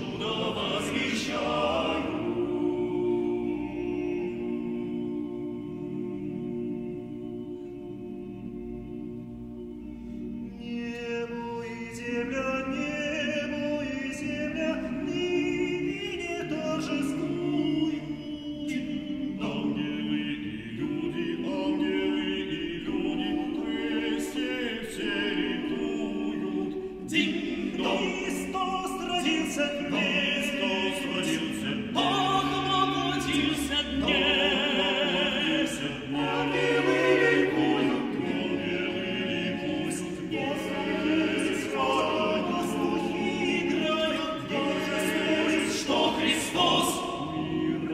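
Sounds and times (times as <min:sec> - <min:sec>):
male choir singing a cappella: 0:00.0 - 0:47.9.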